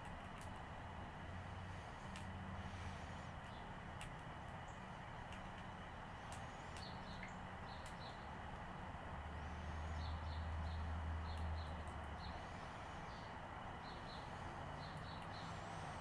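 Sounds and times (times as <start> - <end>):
small birds chirping: 0.0 - 16.0
steady hiss: 0.0 - 16.0.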